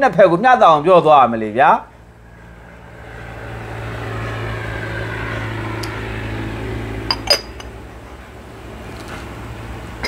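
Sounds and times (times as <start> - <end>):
low motor hum: 1.9 - 10.0.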